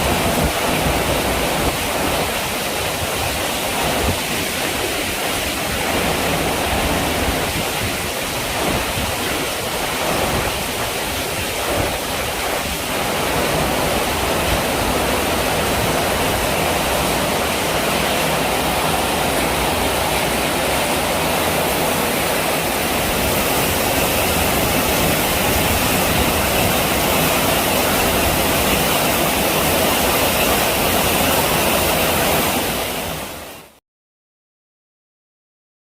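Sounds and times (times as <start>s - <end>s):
gusty wind rumbling: 0.0s - 33.4s
heavy rain pouring: 0.0s - 33.8s.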